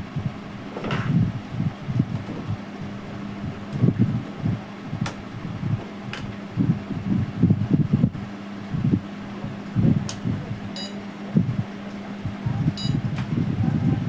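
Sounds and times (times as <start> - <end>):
cooling fan running: 0.0 - 14.0
inverter humming: 0.0 - 14.0
uneven low rumbling: 0.0 - 14.0.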